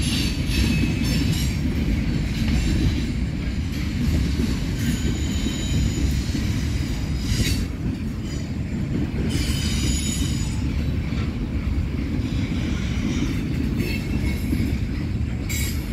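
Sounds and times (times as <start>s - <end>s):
train wheels squealing: 0.0s - 1.8s, 2.5s - 11.2s, 12.1s - 15.9s
freight train cars rumbling: 0.0s - 15.9s.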